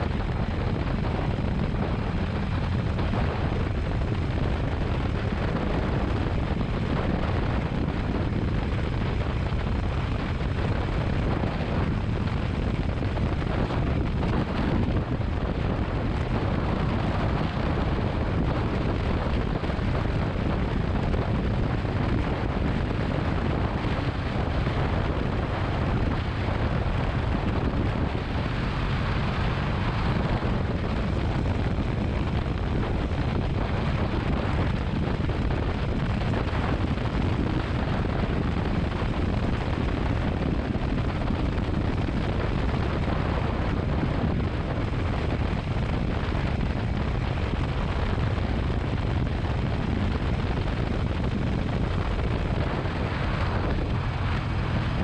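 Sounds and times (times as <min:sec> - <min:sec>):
wind rushing across microphone: 0:00.0 - 0:55.0.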